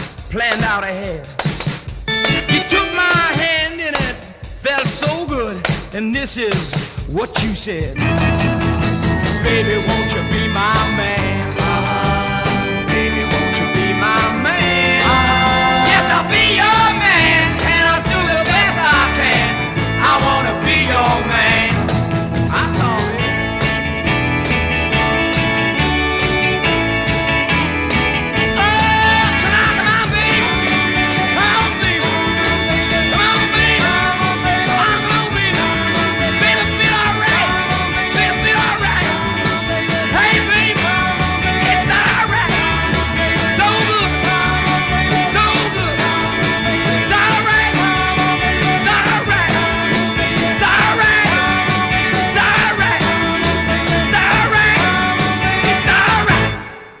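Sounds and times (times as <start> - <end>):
fast driving drum beat: 0.0 - 56.6
rock band playing: 0.0 - 57.0.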